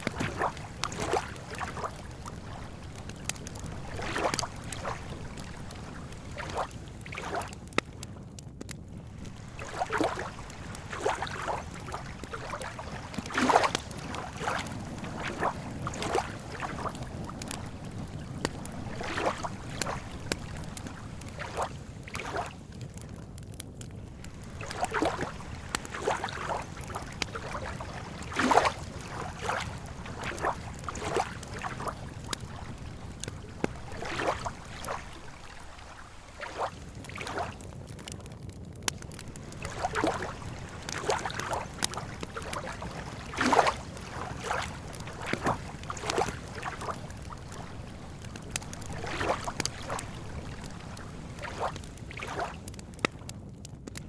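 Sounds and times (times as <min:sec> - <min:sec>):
lake water lapping: 0:00.0 - 0:07.9, 0:09.0 - 0:23.1, 0:24.0 - 0:38.1, 0:38.9 - 0:53.1
campfire crackling and popping: 0:00.0 - 0:54.0.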